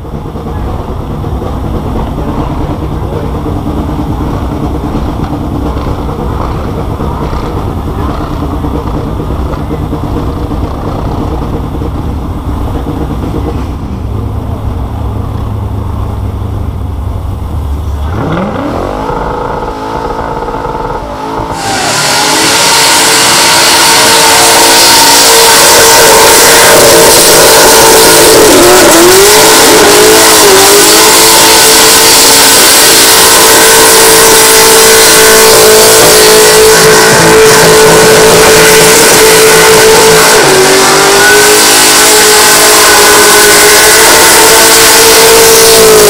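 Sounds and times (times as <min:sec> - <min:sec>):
car engine idling and revving: 0:00.0 - 0:46.0
spinning tyres hissing: 0:00.0 - 0:46.0.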